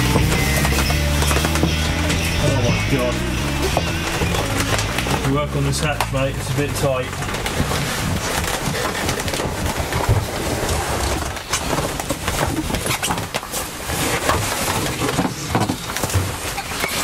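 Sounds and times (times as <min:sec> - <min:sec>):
clothing and tarpaulin rustling: 0:00.0 - 0:17.0.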